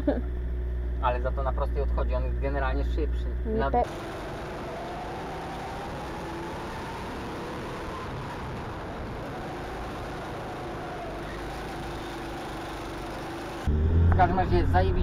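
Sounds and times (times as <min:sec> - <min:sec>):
go-kart engine drone: 0:00.0 - 0:15.0.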